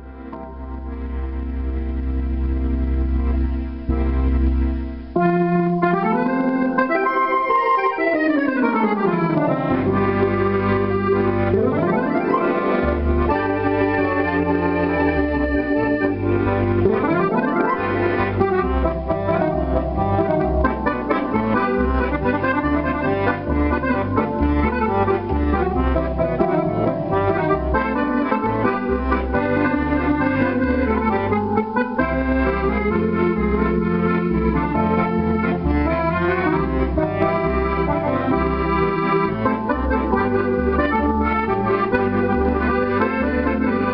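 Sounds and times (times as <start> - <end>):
bass line: 0.0 - 43.9
electronic accordion tune: 0.0 - 43.9.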